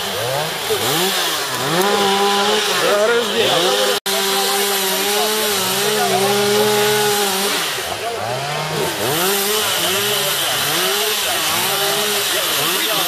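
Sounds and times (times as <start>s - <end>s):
chainsaws revving: 0.0s - 13.0s
chainsaws running: 0.0s - 13.0s.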